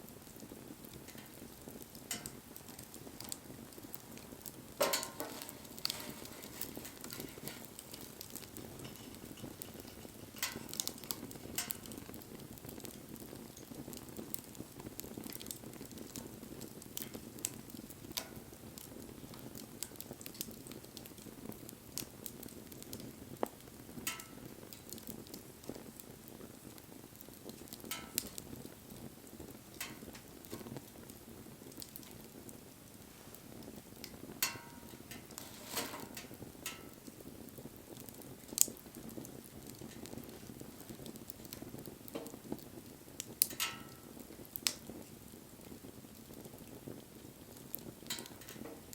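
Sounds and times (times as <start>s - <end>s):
bonfire burning: 0.0s - 48.9s
fire crackling and popping: 0.0s - 48.9s.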